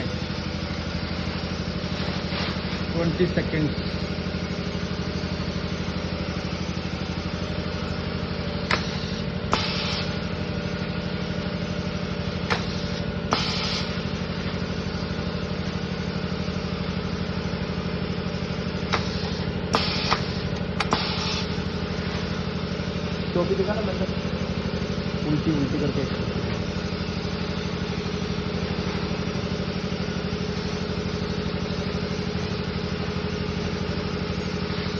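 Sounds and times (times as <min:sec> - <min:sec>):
machine humming: 0:00.0 - 0:34.9.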